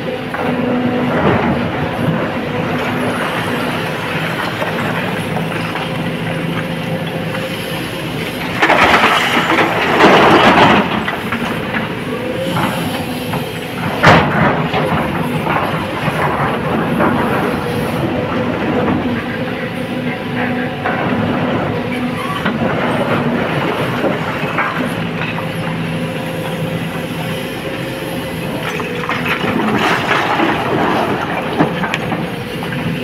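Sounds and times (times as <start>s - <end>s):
excavator engine and hydraulics: 0.0s - 33.0s.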